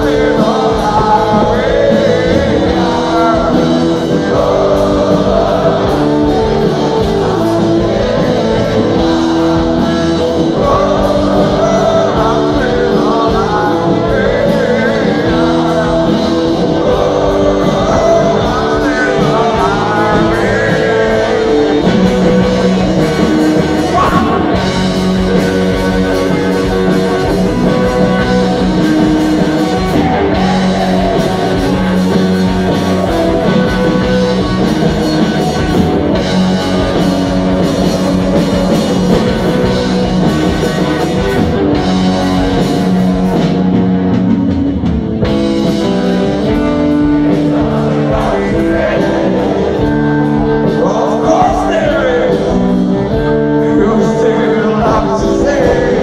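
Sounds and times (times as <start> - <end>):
man singing: 0.0 - 36.2, 47.1 - 56.0
rock band playing live: 0.0 - 56.0.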